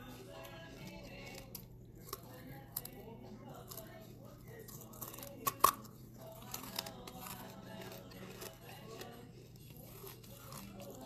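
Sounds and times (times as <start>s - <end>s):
teeth crunching brick: 0.5s - 11.0s.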